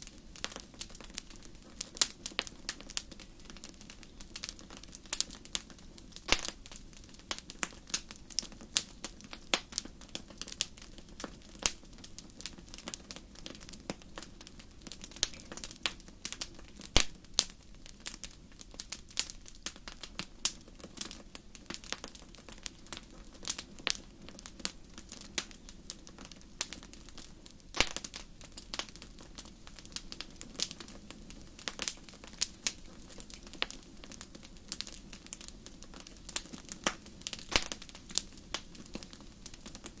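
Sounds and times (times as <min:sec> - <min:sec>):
low steady hiss: 0:00.0 - 0:40.0
wood fire crackling: 0:00.0 - 0:40.0.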